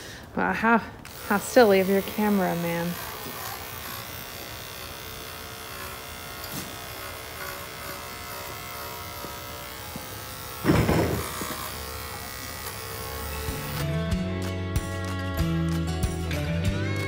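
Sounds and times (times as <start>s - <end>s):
electric clippers buzzing: 1.0s - 17.0s.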